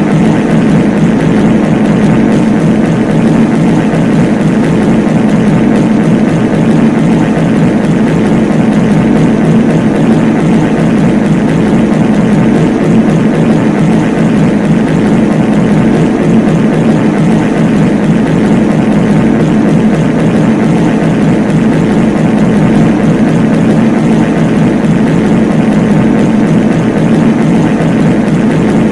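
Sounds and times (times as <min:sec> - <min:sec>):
layered reverb fart sounds: 0:00.0 - 0:28.9.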